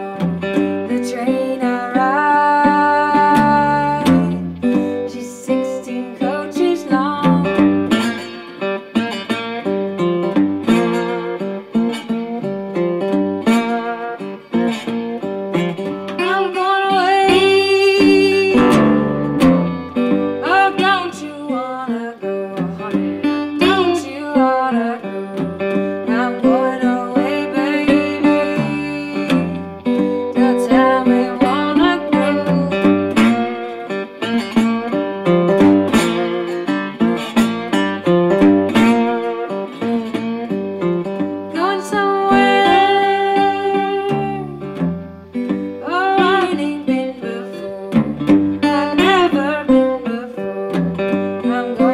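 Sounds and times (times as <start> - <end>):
resonator guitar playing blues: 0.0 - 51.9.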